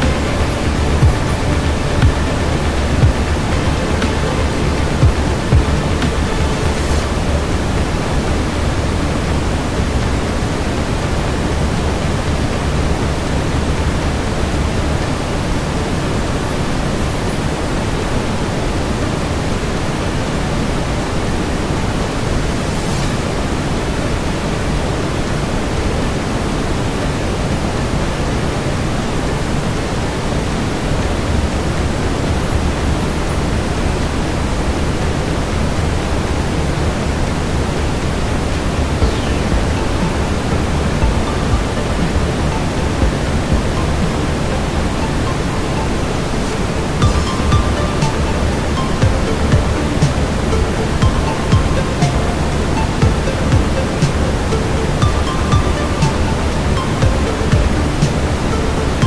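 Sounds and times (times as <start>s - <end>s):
deep brown noise hiss: 0.0s - 59.0s.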